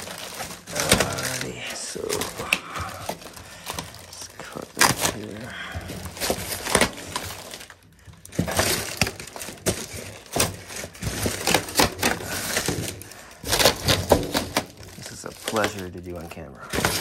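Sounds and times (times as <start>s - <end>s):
plastic wrapping rustling: 0.0s - 17.0s
styrofoam cracking and crunching: 0.0s - 17.0s.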